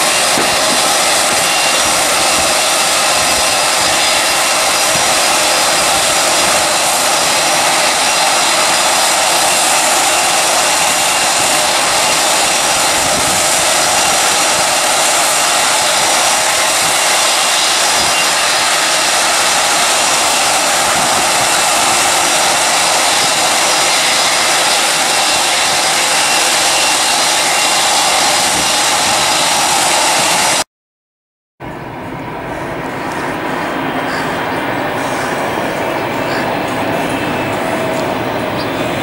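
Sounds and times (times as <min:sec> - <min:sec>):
jet engine rush: 0:00.0 - 0:30.7, 0:31.6 - 0:39.0.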